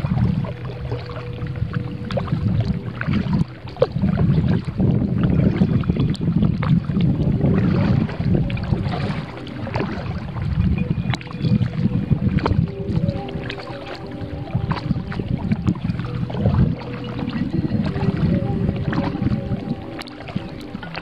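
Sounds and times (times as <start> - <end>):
paddle splashes and drips: 0.0 - 21.0
wind rumbling on microphone: 0.0 - 21.0.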